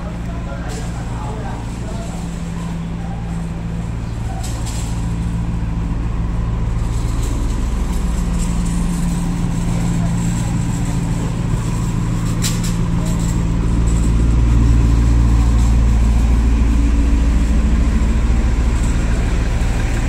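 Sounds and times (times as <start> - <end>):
bus diesel engine humming: 0.0 - 20.0
street traffic: 0.0 - 20.0.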